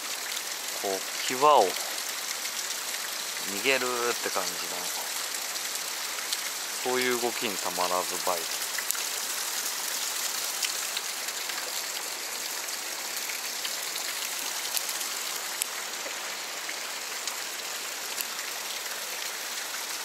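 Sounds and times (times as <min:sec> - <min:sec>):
falling rain: 0:00.0 - 0:20.0
fast-flowing stream: 0:00.0 - 0:20.0.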